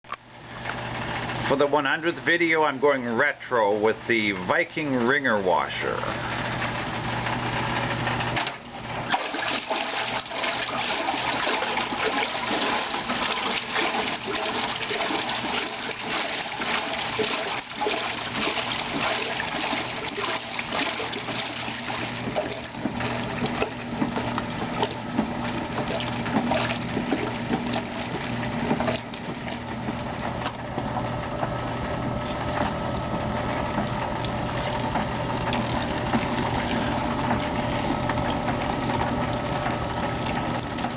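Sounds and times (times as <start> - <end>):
water sloshing in washer: 0.4 - 40.9
wringer rollers squeezing clothes: 3.5 - 40.9
electric motor hum: 3.8 - 40.9.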